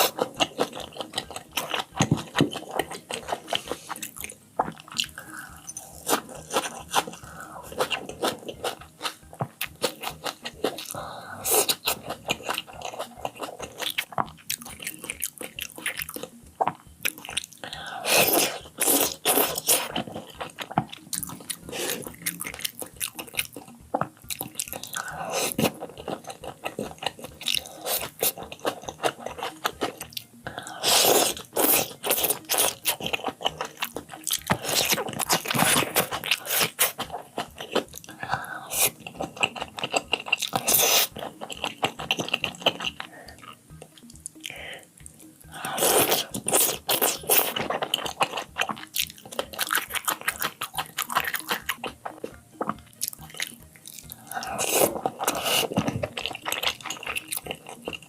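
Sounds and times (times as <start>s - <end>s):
chewing and biting food: 0.0s - 58.0s.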